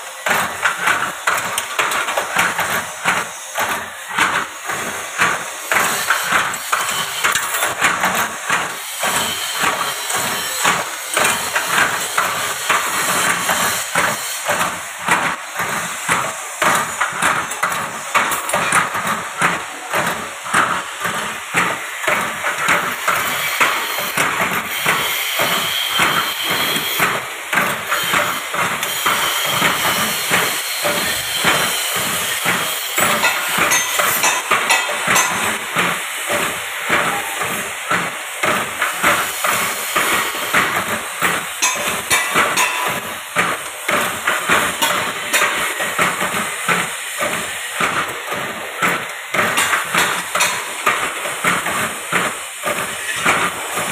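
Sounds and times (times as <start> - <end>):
machine clattering metal knocks: 0.2 - 53.9.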